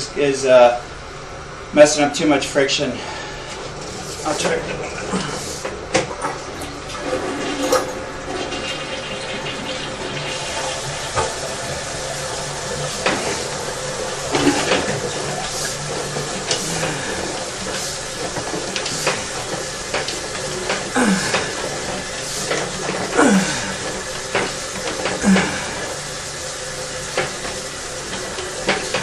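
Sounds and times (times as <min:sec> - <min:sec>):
water rushing in sewer drain: 0:03.2 - 0:29.0.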